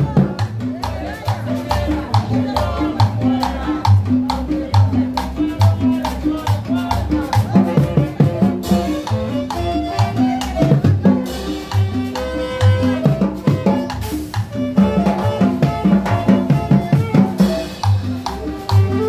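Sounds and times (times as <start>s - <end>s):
live band playing dance music: 0.0s - 19.0s.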